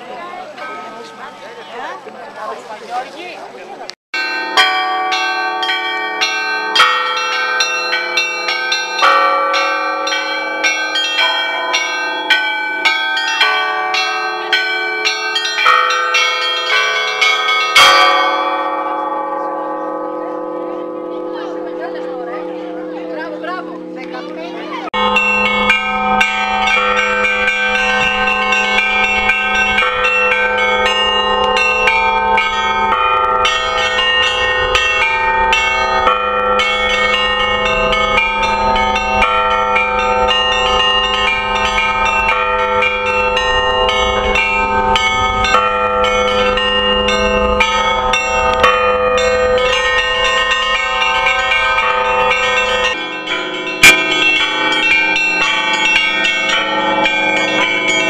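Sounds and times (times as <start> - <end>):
church bells pealing: 0.0 - 2.0, 4.2 - 58.0.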